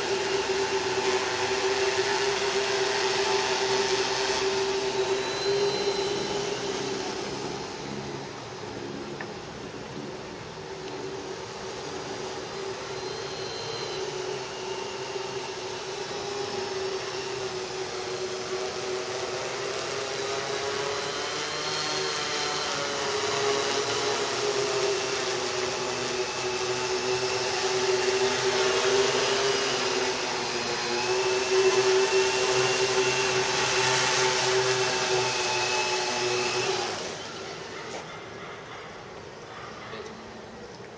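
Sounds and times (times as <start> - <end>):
drone motors buzzing: 0.0 - 38.4.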